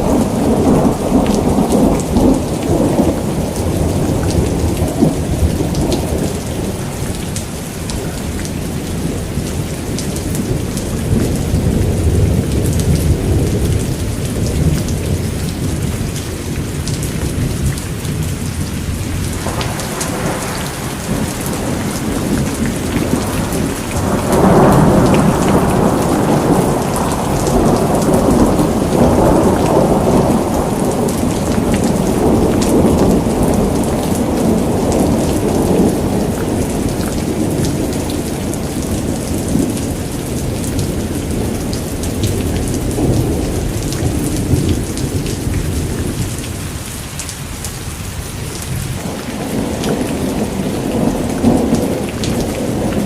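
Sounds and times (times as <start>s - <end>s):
rolling thunder: 0.0s - 46.8s, 48.1s - 53.0s
rain pattering: 0.0s - 53.0s.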